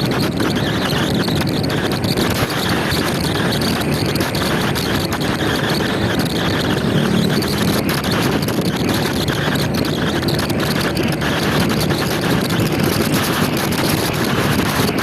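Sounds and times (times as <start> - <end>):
scooter engine hum: 0.0 - 15.0
wind buffeting microphone: 0.0 - 15.0.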